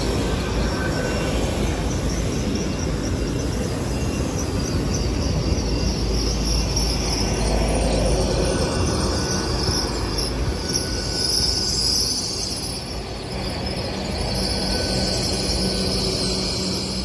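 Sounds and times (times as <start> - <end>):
high-pitched train whine: 0.0 - 17.0
train wheels rumbling on rail: 0.0 - 17.0.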